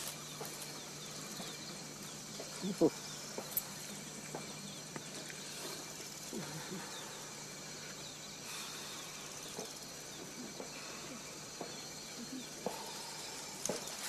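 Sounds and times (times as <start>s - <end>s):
insects chirping: 0.0s - 14.0s
steady hiss: 0.0s - 14.0s.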